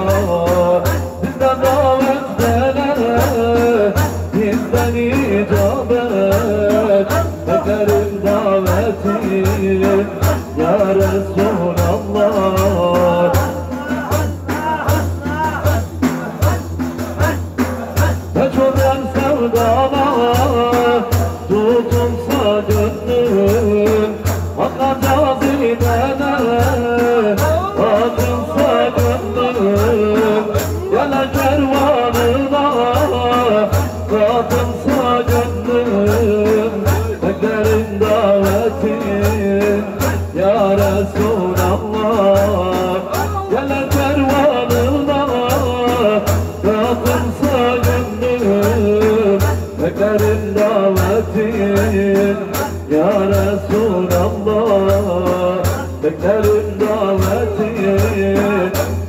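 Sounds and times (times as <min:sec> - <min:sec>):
jingling percussion: 0:00.0 - 0:59.0
people singing: 0:00.0 - 0:59.0
steady rhythmic drum beat: 0:00.0 - 0:59.0.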